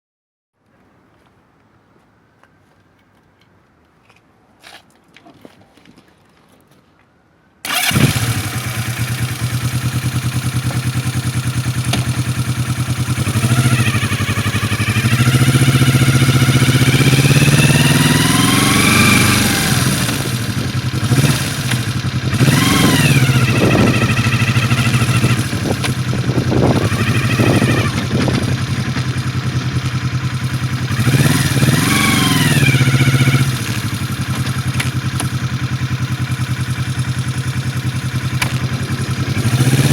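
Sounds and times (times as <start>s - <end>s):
motorcycle engine idling and revving: 7.6s - 39.9s
motorcycle engine starting: 7.6s - 39.9s.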